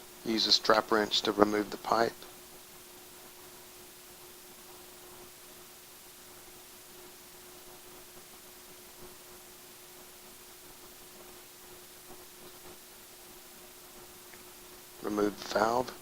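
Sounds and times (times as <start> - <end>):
constant low hum: 0.0 - 16.0
faint steady hiss: 0.0 - 16.0.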